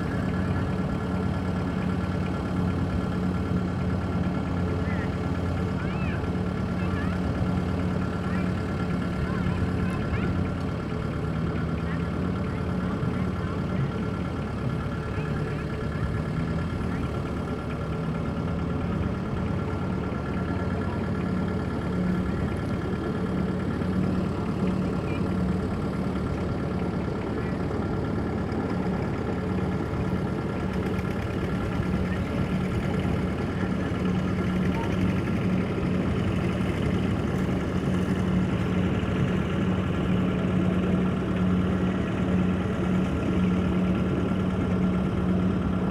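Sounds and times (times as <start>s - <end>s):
combine harvester engine running: 0.0s - 45.9s.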